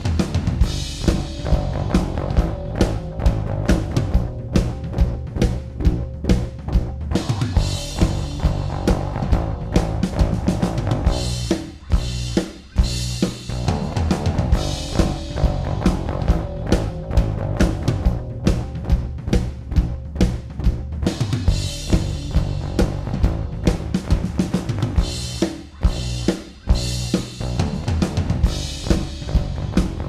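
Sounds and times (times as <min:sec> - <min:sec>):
sustained bass line: 0:00.0 - 0:30.0.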